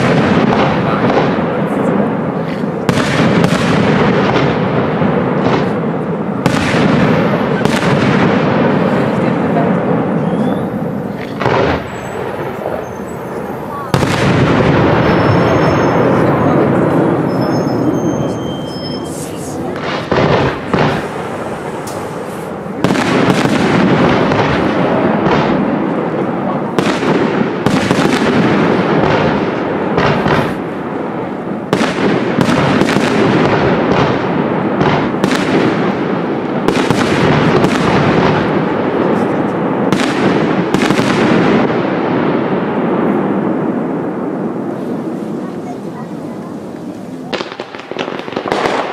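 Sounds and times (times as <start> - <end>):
firework bangs: 0.0 - 48.9
firework crackle: 0.0 - 48.9.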